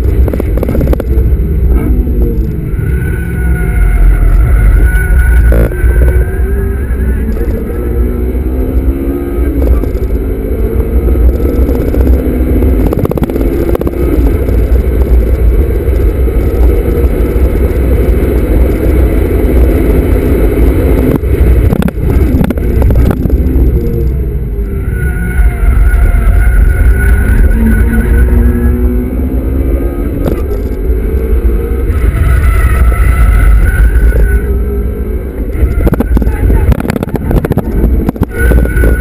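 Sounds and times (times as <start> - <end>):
car engine revving through gears: 0.0 - 39.0
heavy low rumble: 0.0 - 39.0.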